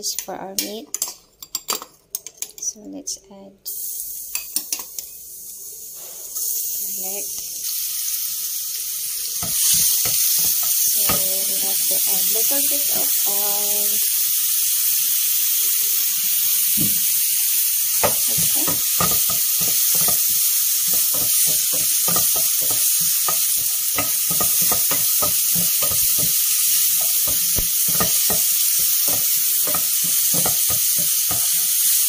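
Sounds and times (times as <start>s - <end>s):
garlic and onion sizzling in oil: 3.7s - 32.0s.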